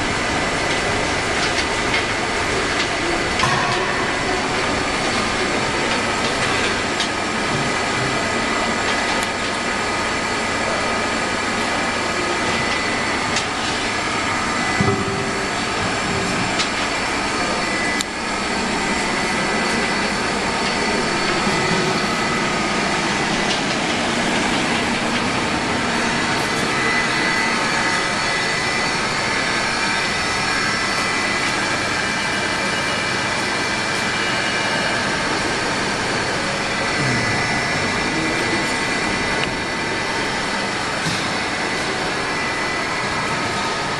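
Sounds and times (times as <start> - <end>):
high machine whines: 0.0 - 43.9
machinery whirring: 0.0 - 43.9.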